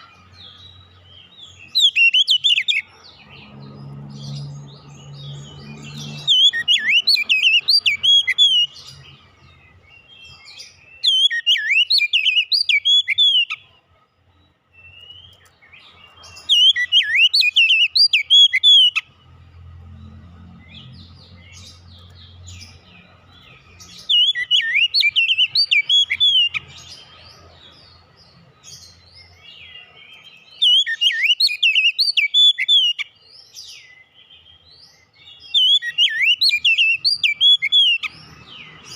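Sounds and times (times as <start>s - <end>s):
bird singing whistled warbling song: 0.0s - 13.7s, 14.3s - 19.1s, 20.6s - 38.9s.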